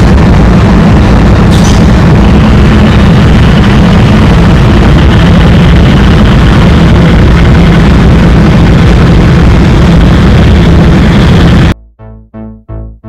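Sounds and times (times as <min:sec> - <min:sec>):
engine-like rumble with low hum: 0:00.0 - 0:11.8.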